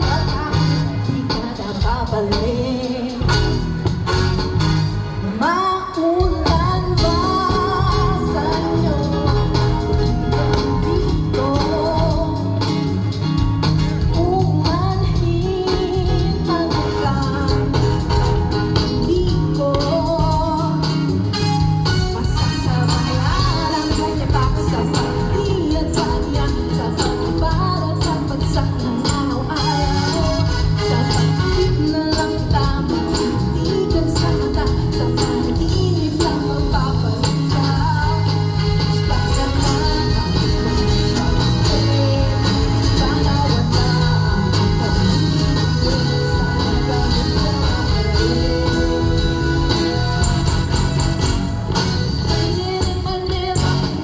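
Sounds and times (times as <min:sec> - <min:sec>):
pop song with singing and band: 0:00.0 - 0:54.0.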